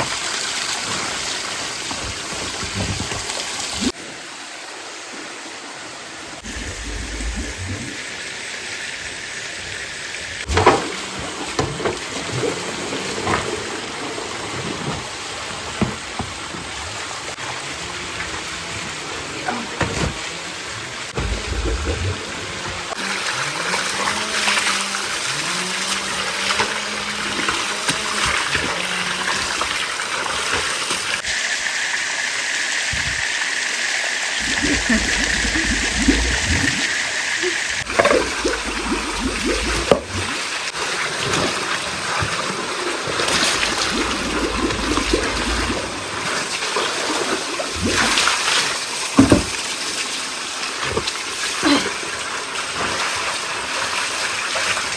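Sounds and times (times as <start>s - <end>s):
stream water trickling: 0.0s - 19.3s, 20.6s - 54.9s
water splashing: 6.4s - 9.4s, 10.4s - 31.4s, 34.4s - 54.9s.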